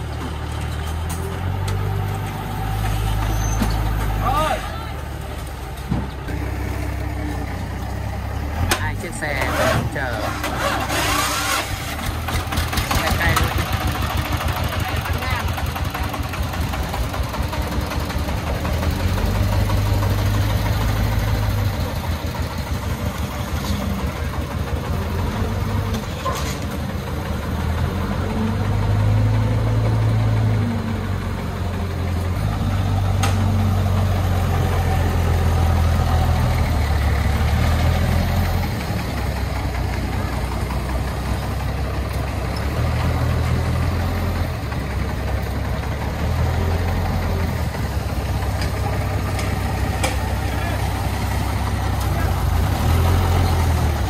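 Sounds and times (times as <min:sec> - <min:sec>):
diesel engines throbbing: 0:00.0 - 0:54.0.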